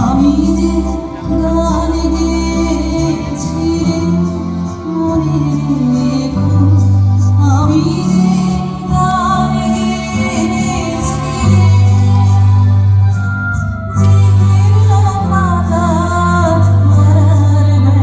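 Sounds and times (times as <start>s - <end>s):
music with singing voice: 0.0s - 18.0s.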